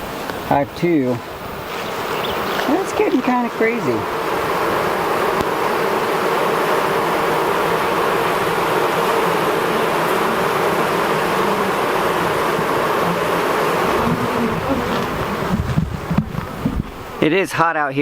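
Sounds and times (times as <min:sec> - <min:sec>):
honeybees buzzing: 0:00.0 - 0:17.6.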